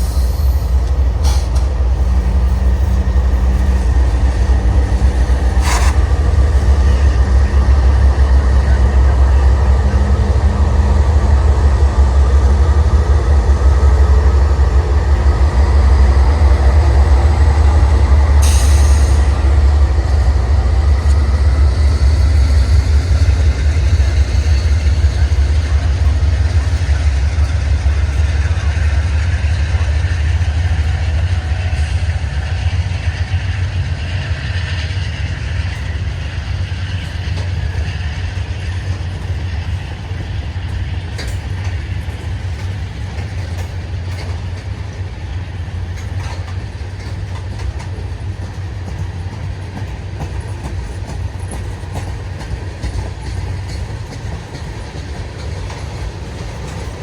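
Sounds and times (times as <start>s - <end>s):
freight train rumbling: 0.0s - 57.0s
train wheels clicking: 0.0s - 57.0s.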